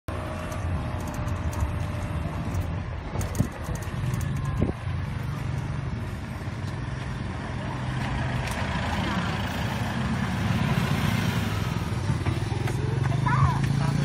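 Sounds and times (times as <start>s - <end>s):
wind: 0.1s - 14.0s.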